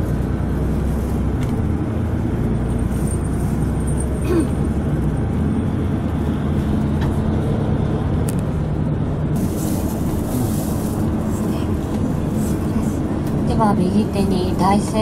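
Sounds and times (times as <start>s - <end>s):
coach engine hum and road rumble: 0.0s - 15.0s.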